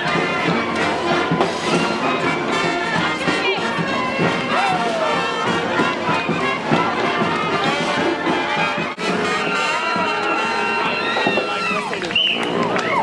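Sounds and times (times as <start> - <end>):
brass band playing: 0.0 - 12.6.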